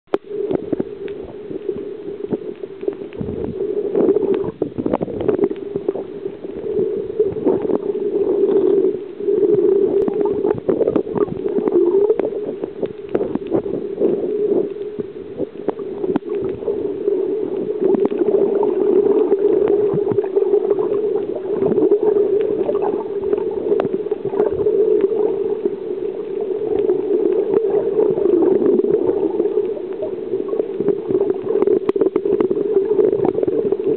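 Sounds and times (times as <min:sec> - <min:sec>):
muffled underwater hum: 0:00.1 - 0:33.9
underwater clicks and gurgles: 0:00.1 - 0:33.9.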